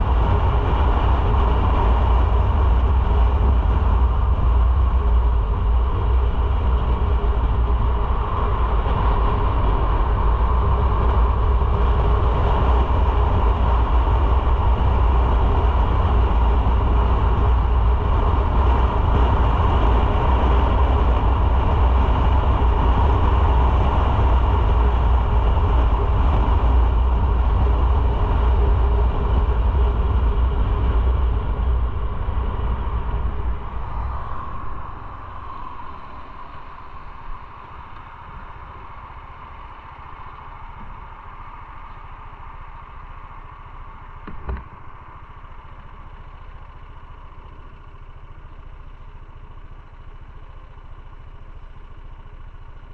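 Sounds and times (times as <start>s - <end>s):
wind noise on microphone: 0.0s - 42.1s, 44.2s - 44.9s
motorcycle engine rumble: 0.0s - 52.9s.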